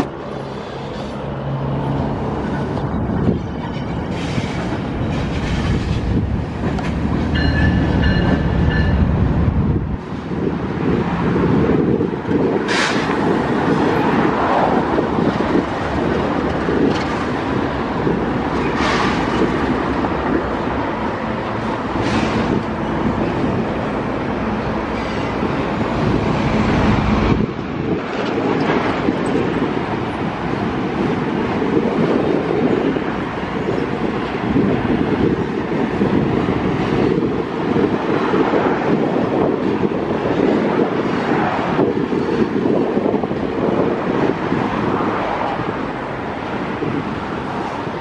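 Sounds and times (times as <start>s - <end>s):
diesel locomotives rumbling: 0.0s - 48.0s
train wheels rumbling on rail: 0.0s - 48.0s.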